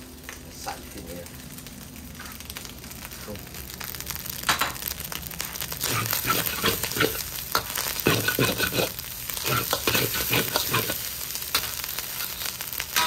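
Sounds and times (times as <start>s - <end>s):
rice sizzling in a pot: 0.0s - 13.0s.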